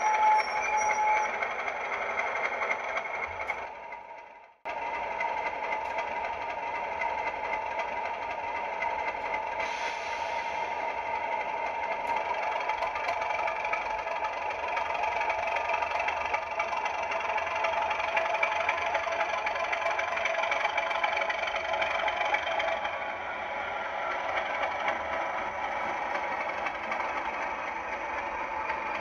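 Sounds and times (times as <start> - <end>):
model train running: 0.0 - 29.0.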